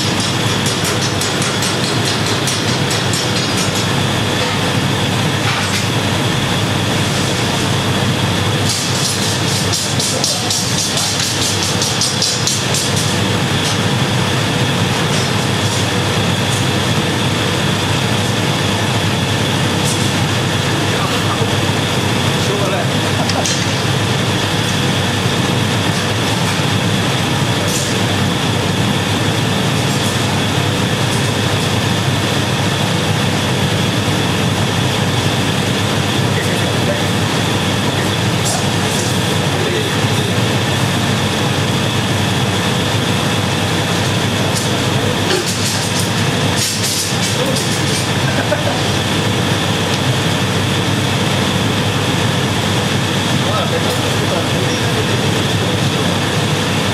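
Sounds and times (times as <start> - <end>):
furnaces and fans rushing: 0.0 - 56.9
low equipment hum: 0.0 - 56.9.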